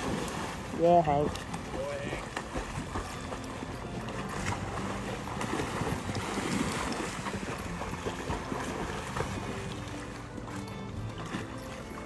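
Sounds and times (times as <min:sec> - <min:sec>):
dogs splashing in water: 0:00.0 - 0:12.0.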